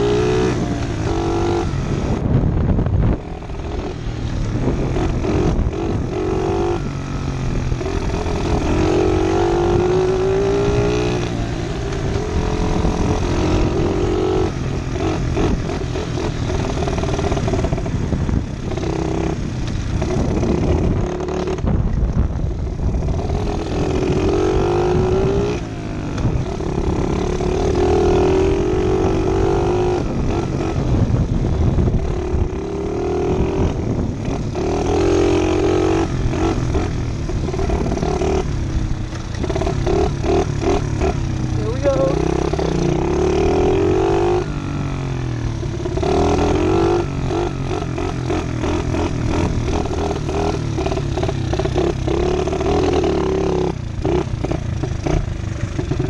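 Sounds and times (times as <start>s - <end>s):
pit bike engine revving: 0.0s - 21.9s, 22.7s - 56.0s.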